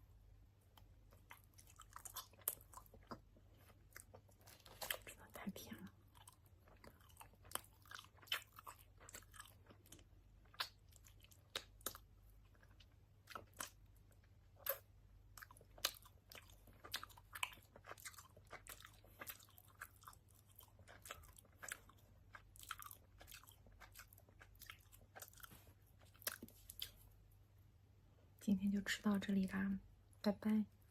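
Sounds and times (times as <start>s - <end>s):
person chewing with mouth open: 0.6s - 27.2s.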